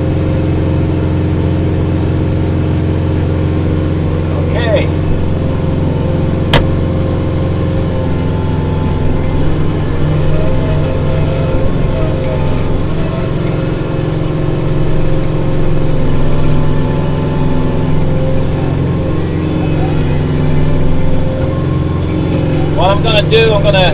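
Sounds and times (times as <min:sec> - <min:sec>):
diesel tractor engine running: 0:00.0 - 0:23.9
snowblower whine: 0:00.0 - 0:23.9.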